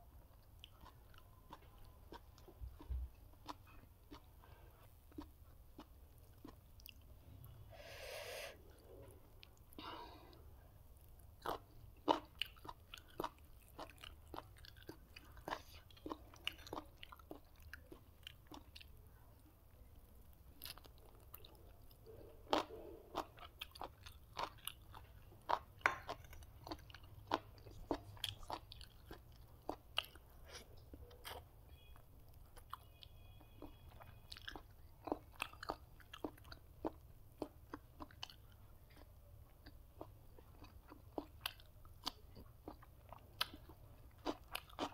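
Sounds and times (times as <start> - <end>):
person chewing and crunching food: 0.0 - 7.2, 11.0 - 19.1, 20.2 - 44.9.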